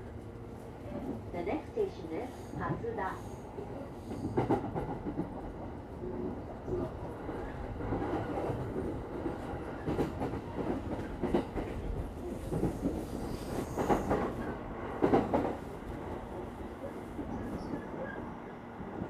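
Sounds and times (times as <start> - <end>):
train car low hum: 0.0 - 19.0.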